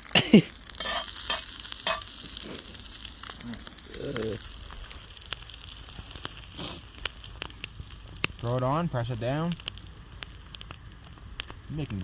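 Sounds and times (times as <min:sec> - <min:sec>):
sandwich sizzling with pops: 0:00.0 - 0:12.0.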